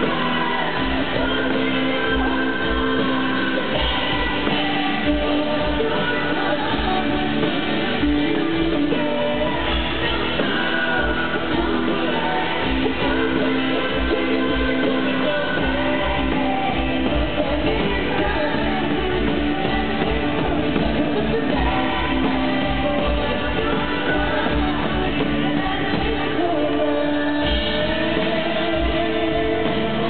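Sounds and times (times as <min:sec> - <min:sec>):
bass guitar: 0:00.0 - 0:30.0
drum kit: 0:00.0 - 0:30.0
electric guitars: 0:00.0 - 0:30.0
woman singing lead vocal: 0:00.0 - 0:30.0.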